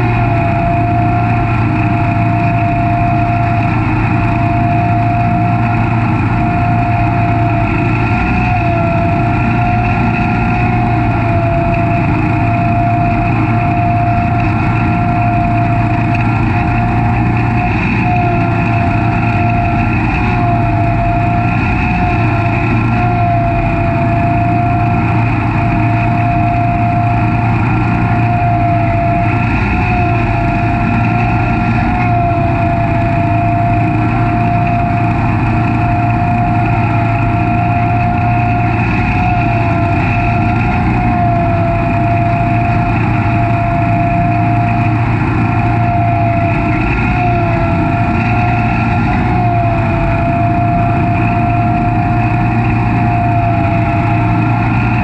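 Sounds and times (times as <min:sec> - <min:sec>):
lawn mower engine droning: 0:00.0 - 0:55.0.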